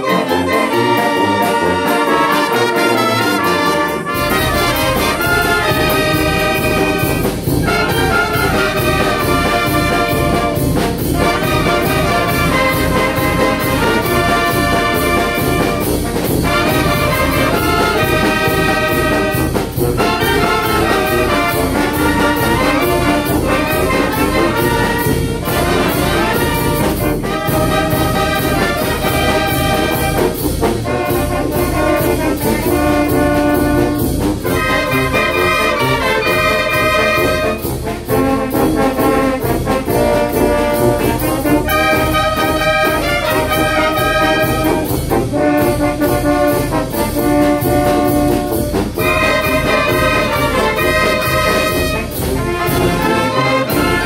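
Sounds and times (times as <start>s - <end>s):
brass band playing: 0.0s - 54.0s
percussion beat: 0.1s - 54.0s.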